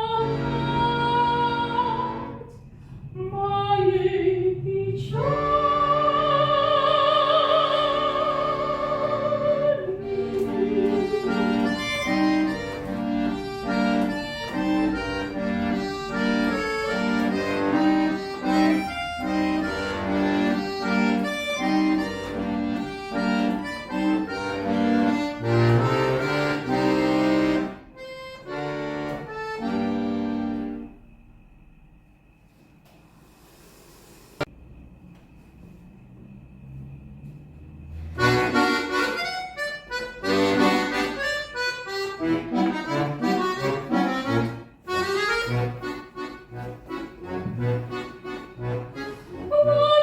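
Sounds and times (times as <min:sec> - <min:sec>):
button accordion playing chords: 0:00.0 - 0:02.6, 0:05.2 - 0:31.0, 0:38.0 - 0:50.0.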